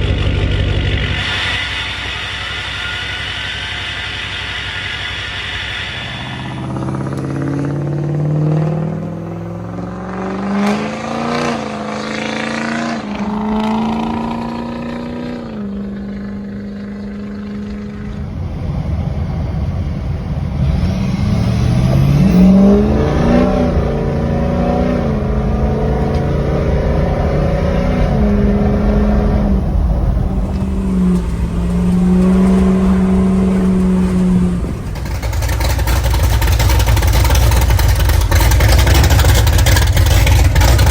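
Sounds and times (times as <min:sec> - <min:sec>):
diesel truck engine accelerating: 0:00.0 - 0:40.9
road and wind noise: 0:00.0 - 0:40.9.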